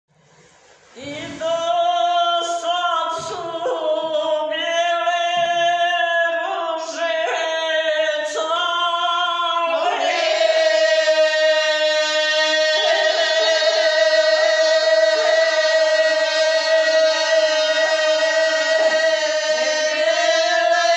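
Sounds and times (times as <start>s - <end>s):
two women singing unaccompanied: 1.0s - 20.9s.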